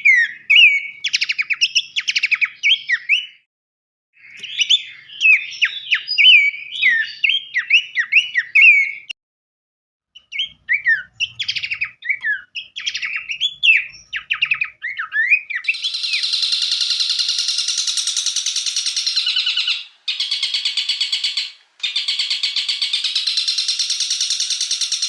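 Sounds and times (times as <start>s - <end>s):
songbird whistles and trills: 0.0s - 3.5s, 4.2s - 9.2s, 10.2s - 25.0s.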